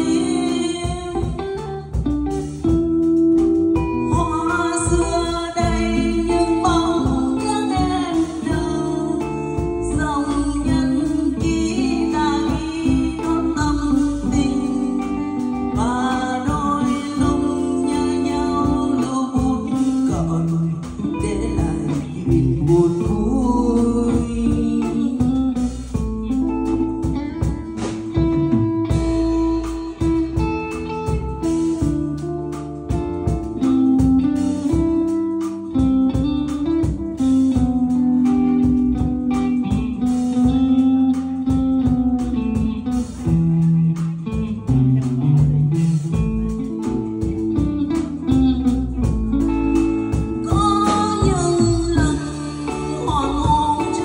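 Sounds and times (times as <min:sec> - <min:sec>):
bass guitar: 0:00.0 - 0:54.0
drum kit steady beat: 0:00.0 - 0:54.0
electric guitar melody: 0:00.0 - 0:54.0.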